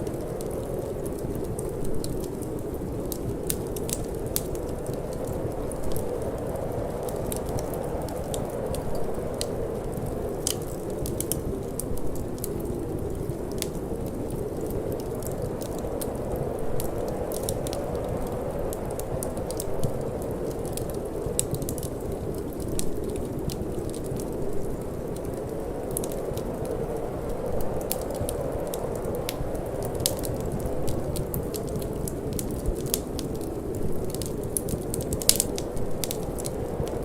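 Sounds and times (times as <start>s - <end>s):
low rush of wind: 0.0s - 37.0s
wood fire crackling: 0.0s - 37.0s.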